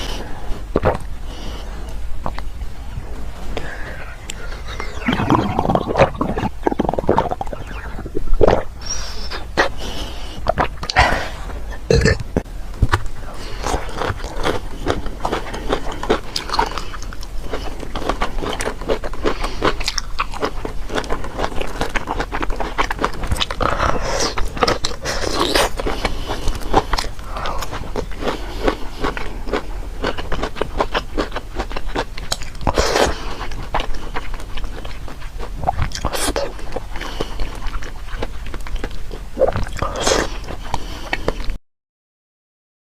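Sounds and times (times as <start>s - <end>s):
crunchy chewing of food: 0.0s - 41.6s.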